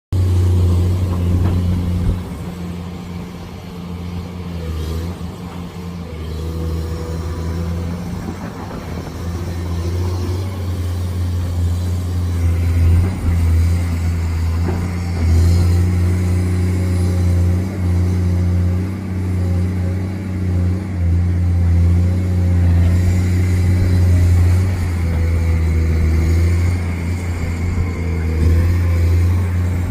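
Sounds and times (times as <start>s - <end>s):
excavator diesel engine drone: 0.1s - 29.9s.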